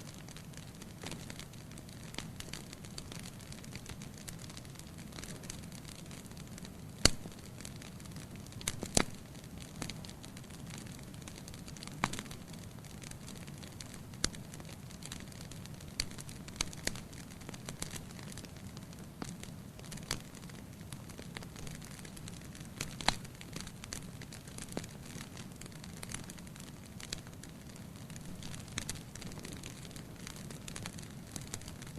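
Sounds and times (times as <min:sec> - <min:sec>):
logs crackling and popping: 0:00.0 - 0:31.9
low flame hiss: 0:00.0 - 0:31.9.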